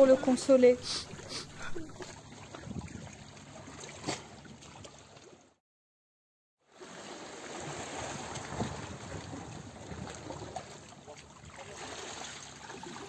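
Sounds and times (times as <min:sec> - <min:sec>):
sea water lapping and splashing: 0:00.0 - 0:05.6, 0:06.6 - 0:13.0.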